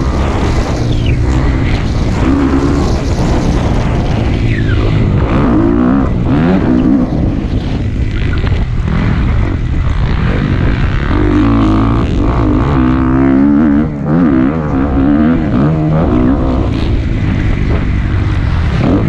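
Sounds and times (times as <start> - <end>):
dirt bike engine running hard: 0.0 - 19.0
steady low rumble: 0.0 - 19.0.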